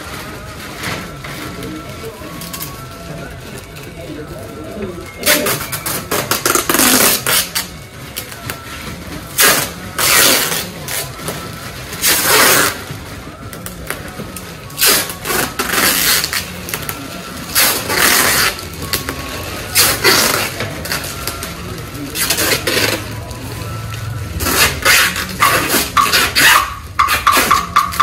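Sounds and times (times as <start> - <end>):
plastic sheeting crinkling: 0.0 - 28.0.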